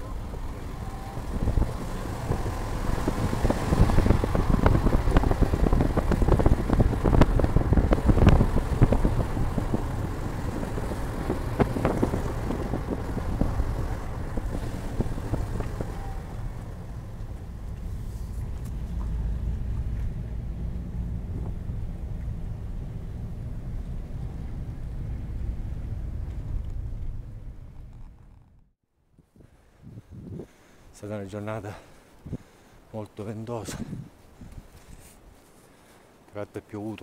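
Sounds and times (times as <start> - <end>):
wind buffeting microphone: 0.0 - 28.6, 29.2 - 30.8, 32.2 - 32.6, 33.5 - 35.1
car rumbling on road: 0.0 - 32.7.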